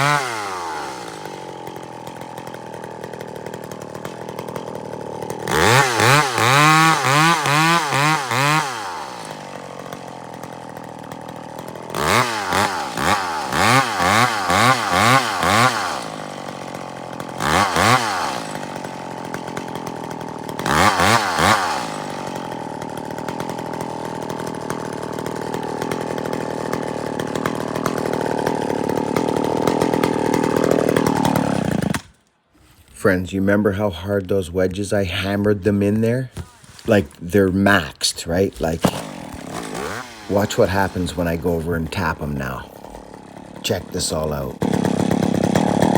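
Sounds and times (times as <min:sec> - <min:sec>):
chainsaw engine revving: 0:00.0 - 0:45.9
chainsaw idling: 0:00.0 - 0:45.9.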